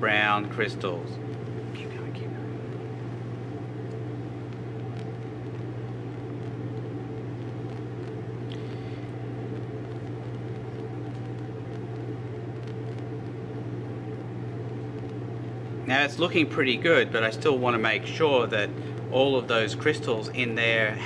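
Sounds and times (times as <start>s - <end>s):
burner flame hum: 0.0s - 21.0s.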